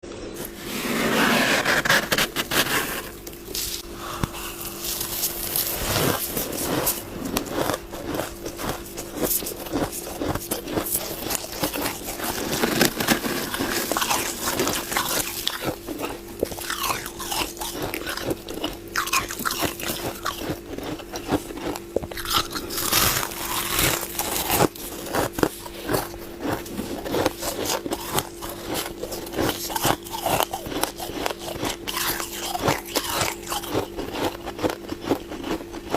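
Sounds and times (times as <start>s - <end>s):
chewing crunchy frost: 3.4s - 35.9s.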